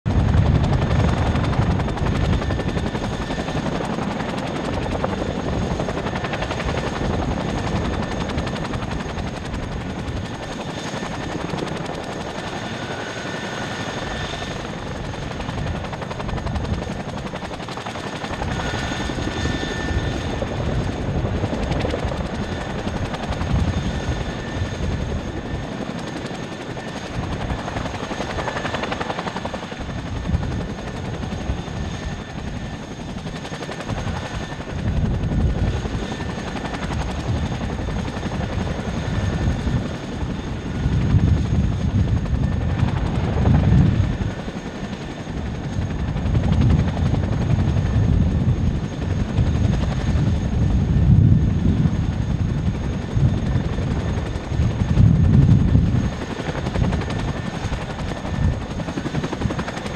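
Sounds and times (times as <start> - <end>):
helicopter rotor blades thudding: 0.1 - 59.9.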